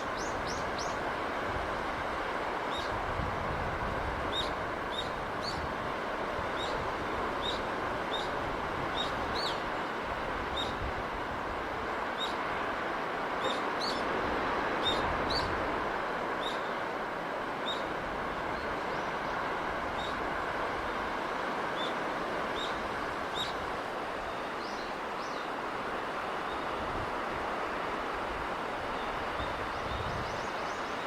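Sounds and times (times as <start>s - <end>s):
sea rushing: 0.0s - 31.0s.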